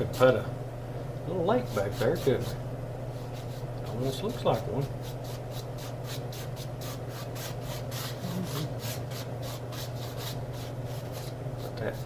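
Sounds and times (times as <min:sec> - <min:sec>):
paintbrush scrubbing on canvas: 0:01.6 - 0:02.6, 0:03.2 - 0:12.0.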